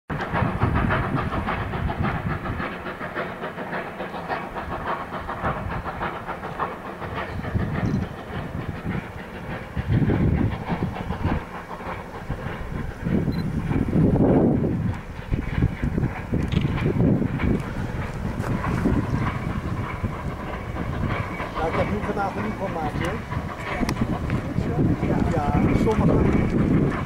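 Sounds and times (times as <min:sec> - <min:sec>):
low rumble: 0:00.1 - 0:27.0
steam hiss: 0:00.1 - 0:27.0
steam locomotive chuffing: 0:00.1 - 0:27.0.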